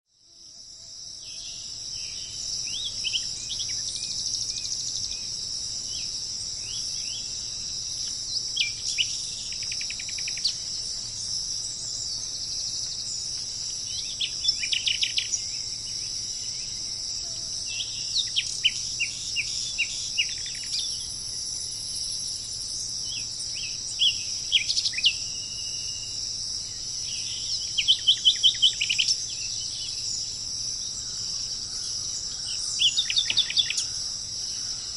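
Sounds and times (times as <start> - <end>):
songbirds trilling: 1.0 - 34.9.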